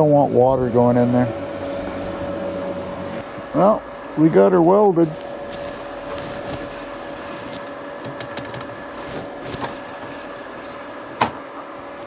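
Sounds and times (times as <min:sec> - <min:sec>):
steady hum with thin tone: 0:00.0 - 0:12.0.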